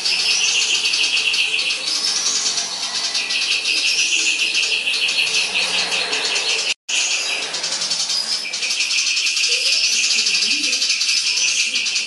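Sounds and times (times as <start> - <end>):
songbird chattering song: 0.0 - 12.0.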